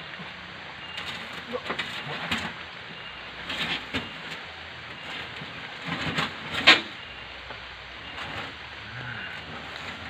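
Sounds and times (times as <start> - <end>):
branches and leaves rustling: 0.0 - 10.0.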